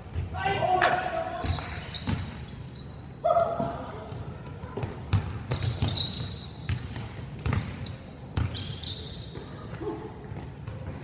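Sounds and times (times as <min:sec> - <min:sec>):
sneakers squeaking on floor: 0:01.4 - 0:11.0.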